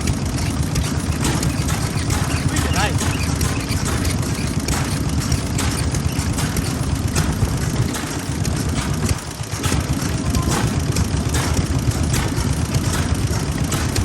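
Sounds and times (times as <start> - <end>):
stationary engine chugging: 0.0 - 14.0.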